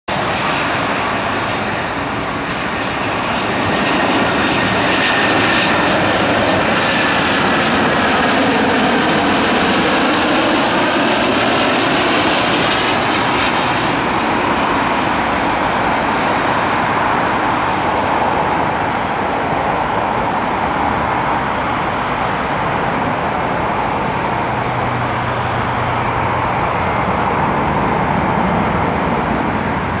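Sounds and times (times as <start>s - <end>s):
jet airliner passing overhead: 0.1s - 30.0s.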